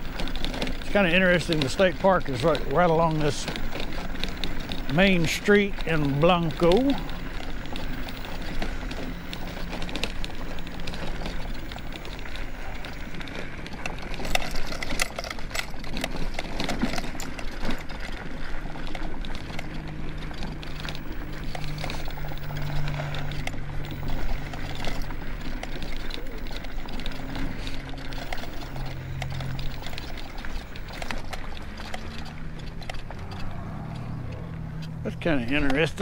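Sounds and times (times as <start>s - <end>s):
scooter motor hum: 0.0s - 36.0s
wheels rattling on bumpy ground: 0.0s - 36.0s.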